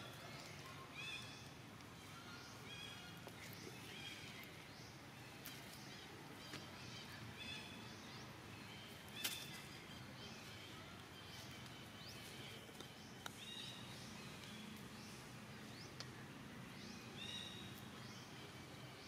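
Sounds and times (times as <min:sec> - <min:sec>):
birds chirping: 0:00.0 - 0:19.0
low outdoor hum: 0:00.0 - 0:19.0.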